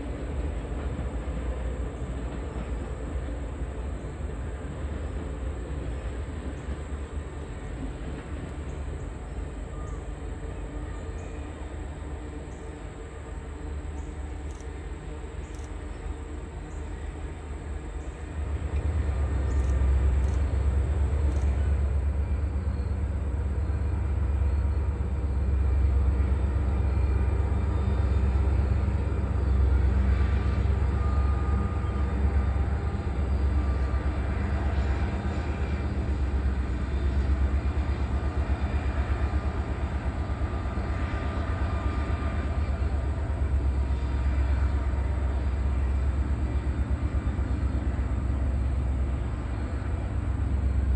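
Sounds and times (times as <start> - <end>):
diesel locomotive engine rumble: 0.0 - 50.9.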